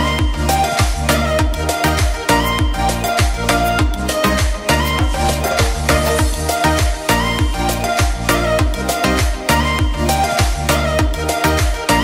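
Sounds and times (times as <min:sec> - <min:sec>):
background music with kick drum: 0:00.0 - 0:12.0.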